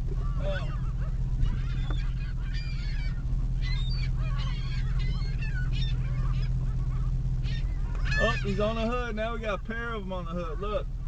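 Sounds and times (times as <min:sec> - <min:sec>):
gulls squawking: 0:00.0 - 0:11.0
truck engine idling: 0:00.0 - 0:11.0.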